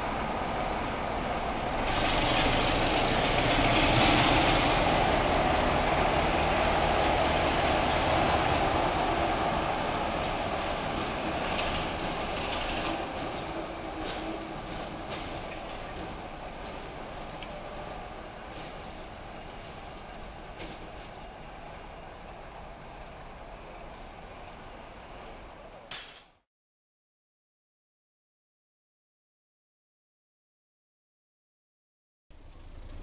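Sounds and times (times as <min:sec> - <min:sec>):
diesel locomotive pulling away: 0:00.0 - 0:25.9, 0:32.3 - 0:33.0.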